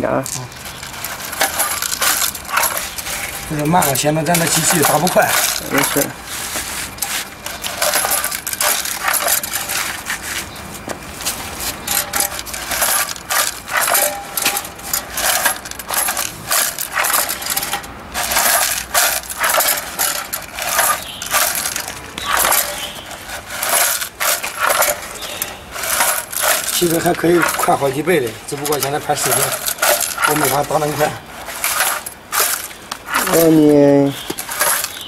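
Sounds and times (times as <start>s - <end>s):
eyelet machine clinking: 0.1s - 6.2s, 6.9s - 10.0s, 11.8s - 35.0s.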